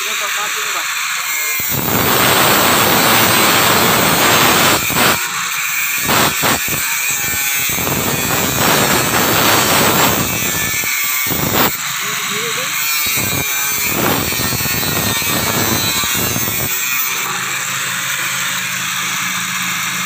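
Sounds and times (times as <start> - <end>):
angle grinder cutting metal: 0.0 - 20.0.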